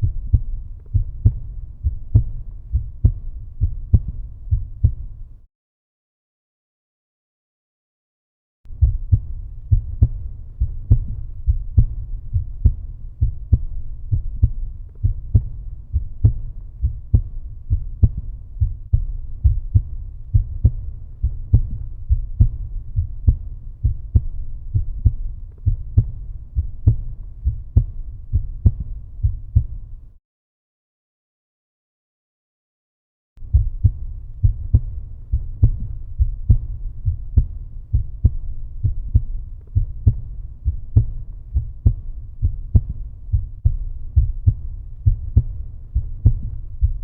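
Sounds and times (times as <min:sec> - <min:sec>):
heartbeat thumps: 0:00.0 - 0:05.4, 0:08.7 - 0:30.1, 0:33.4 - 0:47.0.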